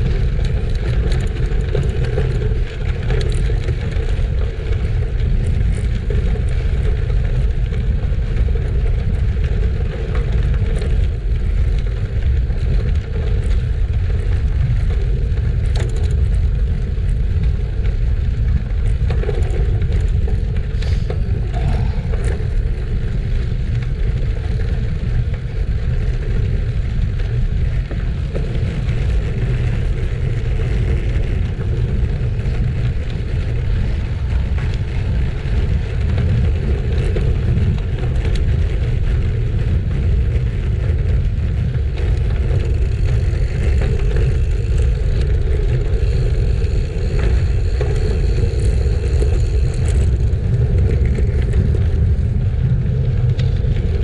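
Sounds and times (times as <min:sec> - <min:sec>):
bicycle tyres crunching on gravel: 0:00.0 - 0:54.0
sharp clicks and rattles: 0:00.0 - 0:54.0
wind rumble on microphone: 0:00.0 - 0:54.0.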